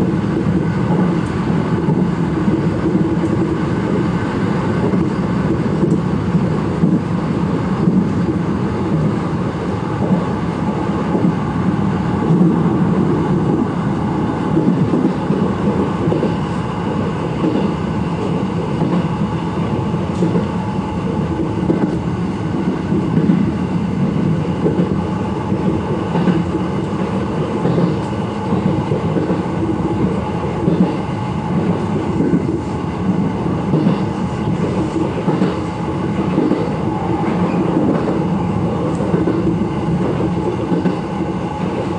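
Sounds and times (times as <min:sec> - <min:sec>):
electric train running: 0:00.0 - 0:41.9.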